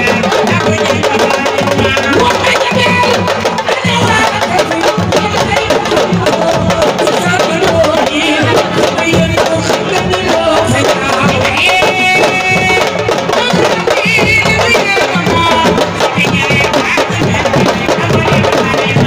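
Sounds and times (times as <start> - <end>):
dense fast drumming: 0.0 - 19.0.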